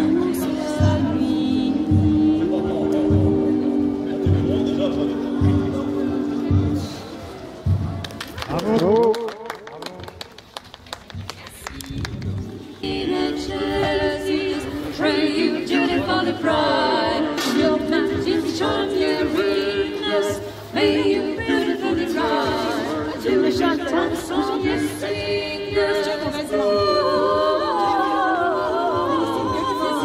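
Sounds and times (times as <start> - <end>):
group singing unaccompanied carol: 0.0 - 8.0, 12.6 - 30.0.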